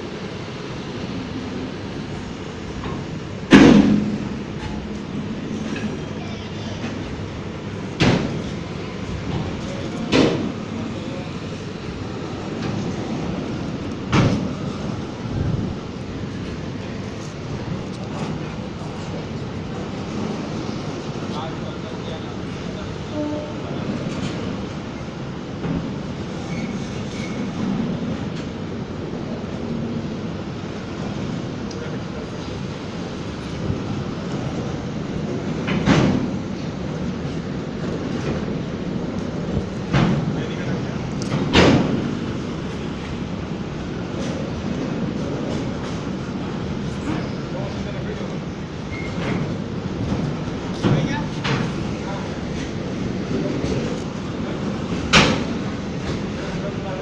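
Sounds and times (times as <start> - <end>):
train wagons rumbling and rattling: 0.0 - 57.0.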